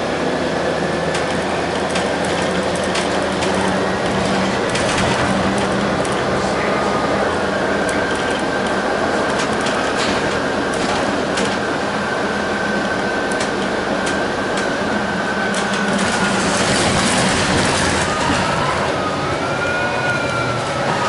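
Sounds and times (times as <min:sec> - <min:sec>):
bus running noise: 0:00.0 - 0:21.0.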